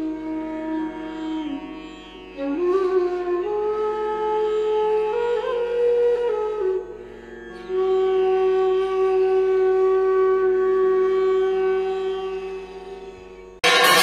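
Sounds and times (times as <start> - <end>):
flute-like slow melody: 0.0 - 1.7, 2.4 - 12.8.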